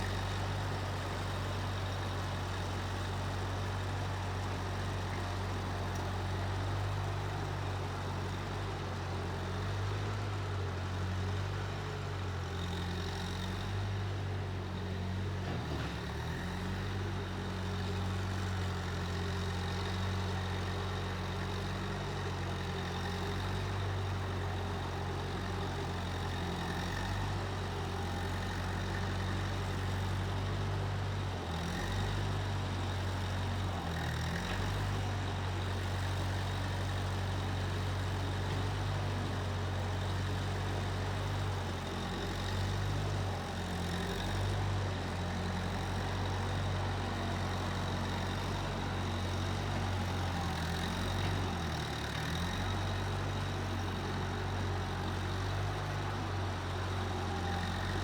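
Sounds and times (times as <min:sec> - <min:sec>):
skid steer engine humming: 0:00.0 - 0:58.0.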